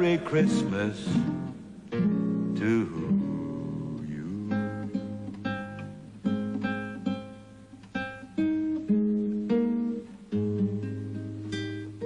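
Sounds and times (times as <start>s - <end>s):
plucked guitar notes: 0.0s - 12.0s.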